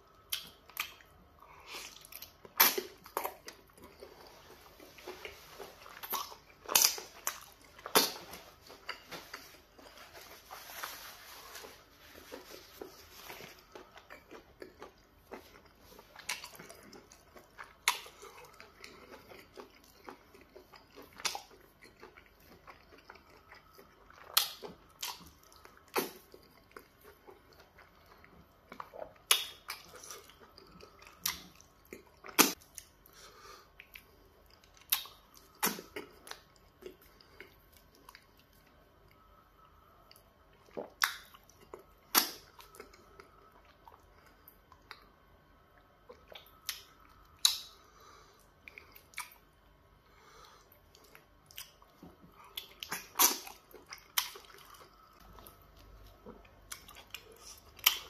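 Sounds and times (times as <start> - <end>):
person chewing: 0.1 - 58.0.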